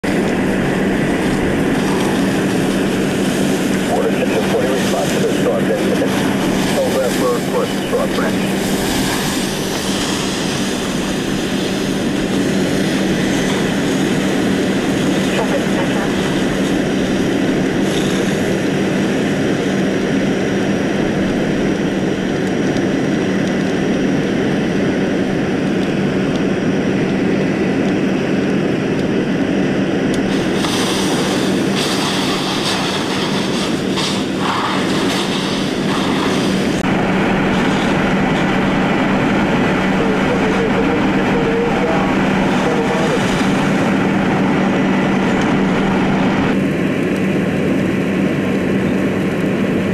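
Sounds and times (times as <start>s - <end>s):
engine running: 0.0s - 49.9s
fire hissing and crackling: 0.0s - 49.9s
roar of flames: 0.0s - 49.9s
steady low hum: 0.0s - 49.9s.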